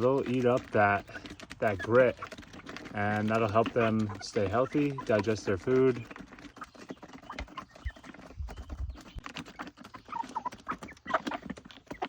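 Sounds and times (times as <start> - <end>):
chickens clucking softly: 0.0 - 12.0
chickens pecking at grit: 0.0 - 12.0.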